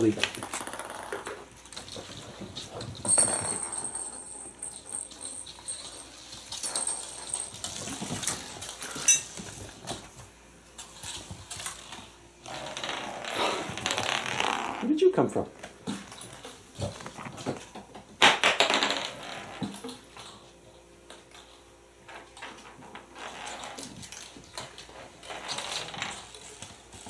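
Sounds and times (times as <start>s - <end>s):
toy balls and paws rattling: 0.0s - 14.4s, 15.8s - 27.0s
kittens scuffling: 0.0s - 14.8s, 15.5s - 18.2s, 19.3s - 27.0s.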